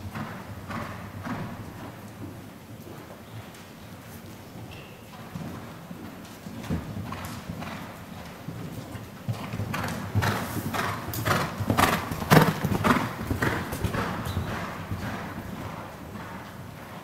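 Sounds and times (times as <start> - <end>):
horse hoofbeats on sand: 0.0 - 17.0.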